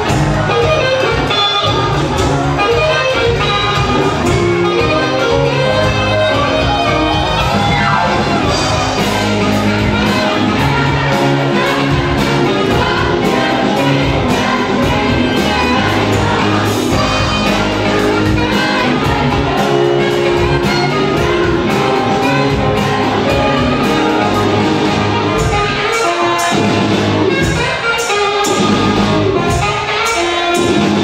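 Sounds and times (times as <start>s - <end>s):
bass guitar: 0.0s - 31.0s
drum kit beat: 0.0s - 31.0s
electric guitar: 0.0s - 31.0s
keyboard: 0.0s - 31.0s
saxophone: 0.0s - 31.0s.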